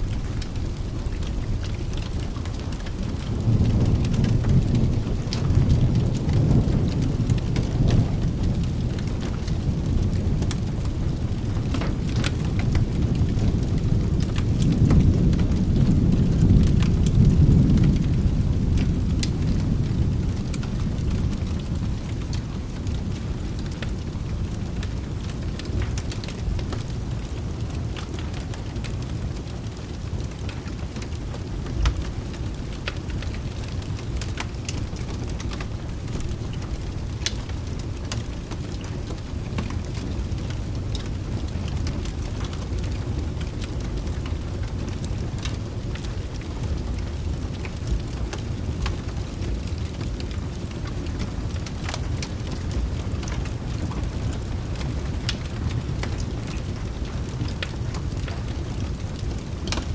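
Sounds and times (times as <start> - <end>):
sharp crackles: 0.0 - 19.8, 20.4 - 59.9
rolling thunder: 0.0 - 28.0, 29.1 - 59.9
steady rain: 0.0 - 59.9.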